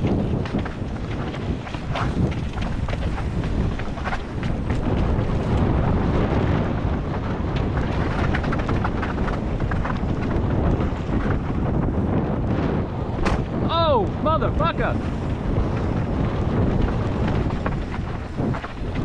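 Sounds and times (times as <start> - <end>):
bike rattling on rocky trail: 0.0 - 13.9, 14.5 - 19.0
wind buffeting microphone: 0.0 - 19.0.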